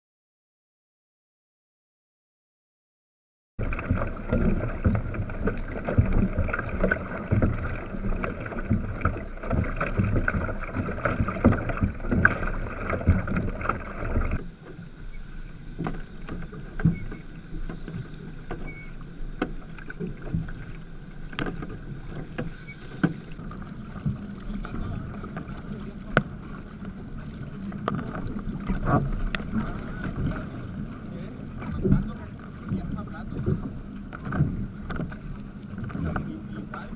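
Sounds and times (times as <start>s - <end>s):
paddle blades striking water: 3.6s - 36.9s
water lapping: 3.6s - 36.9s
water rushing: 3.6s - 36.9s.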